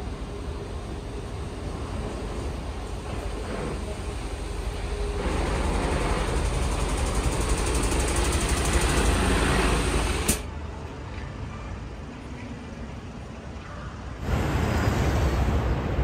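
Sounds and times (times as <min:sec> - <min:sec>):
coach engine rumble: 0:00.0 - 0:16.0.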